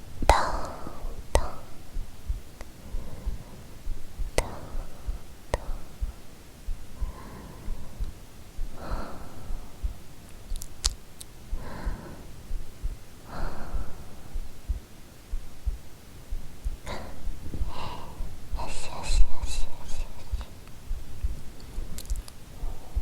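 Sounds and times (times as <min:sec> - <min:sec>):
heartbeat thumps: 0:00.0 - 0:23.0
soft breaths: 0:00.0 - 0:23.0.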